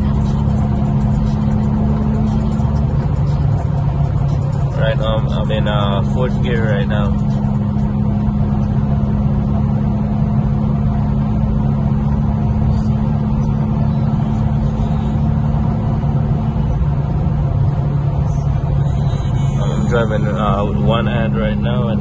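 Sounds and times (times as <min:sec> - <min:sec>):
car engine droning: 0:00.0 - 0:22.0
road noise: 0:00.0 - 0:22.0.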